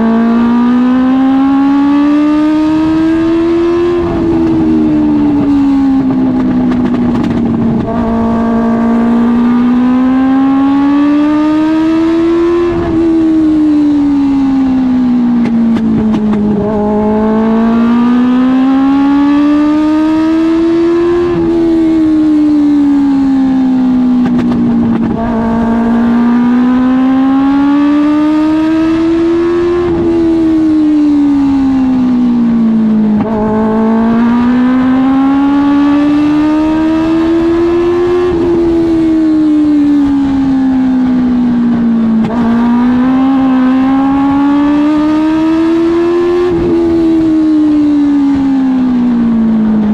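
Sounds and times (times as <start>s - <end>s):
race car engine rising and falling: 0.0s - 49.9s.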